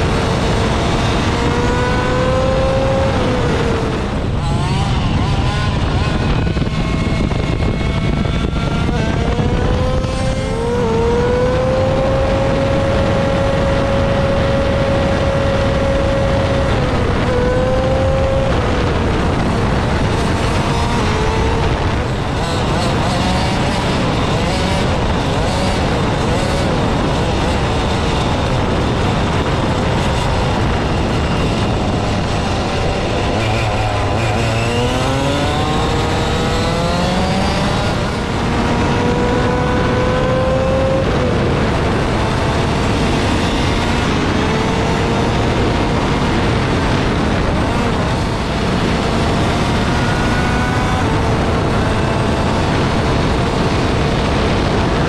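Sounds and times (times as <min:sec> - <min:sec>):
wind and tyre noise: 0:00.0 - 0:55.0.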